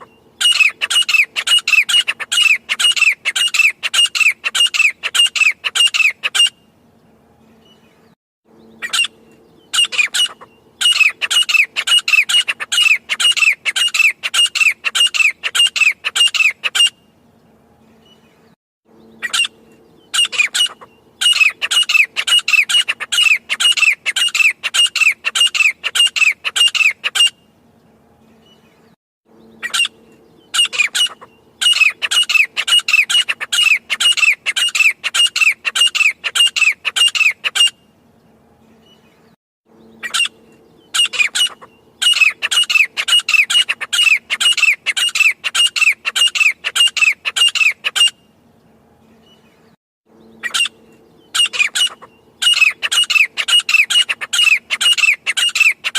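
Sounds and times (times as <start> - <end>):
francolin calling: 0.0 - 6.6, 8.6 - 17.0, 19.0 - 27.4, 29.3 - 37.8, 39.8 - 48.3, 50.2 - 55.9.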